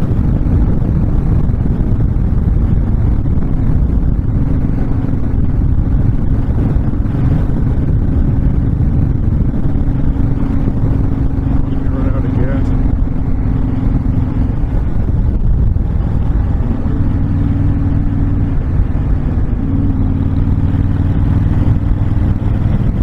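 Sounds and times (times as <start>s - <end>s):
motorcycle engine cruising: 0.0s - 23.0s
wind rumble on microphone: 0.0s - 23.0s.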